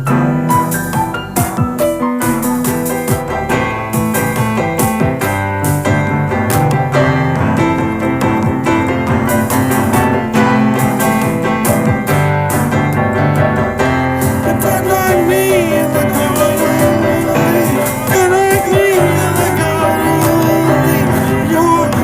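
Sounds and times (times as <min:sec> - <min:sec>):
electric piano chords: 0:00.0 - 0:22.0
sampled drum beat: 0:00.0 - 0:22.0.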